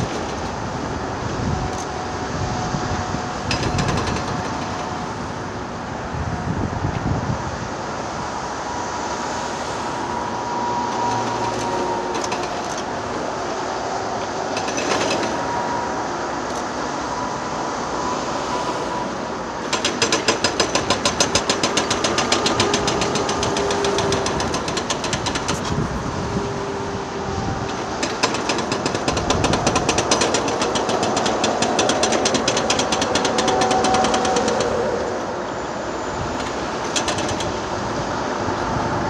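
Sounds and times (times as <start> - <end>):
excavator engine running: 7.5 - 39.0.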